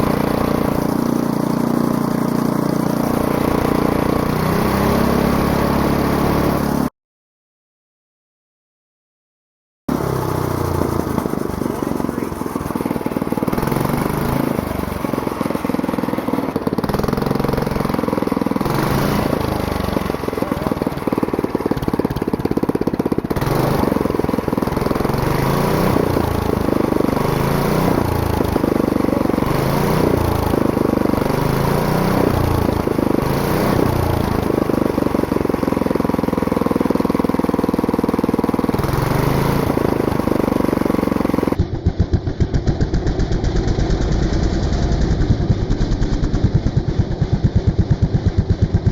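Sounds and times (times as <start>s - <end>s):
go-kart engine revving: 0.0s - 6.9s, 9.9s - 48.9s.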